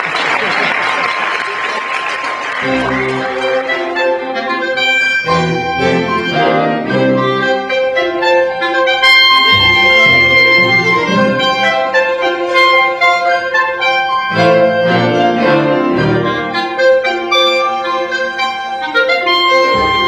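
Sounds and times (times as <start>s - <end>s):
orchestra playing: 2.4s - 20.0s.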